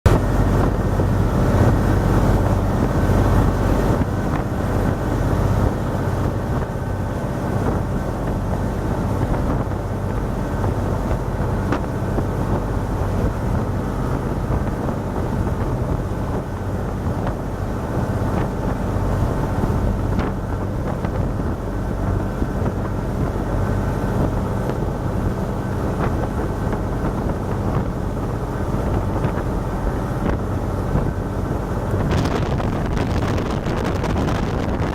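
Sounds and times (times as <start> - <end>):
motorboat engine running: 0.0 - 34.9
wind buffeting microphone: 0.0 - 34.9.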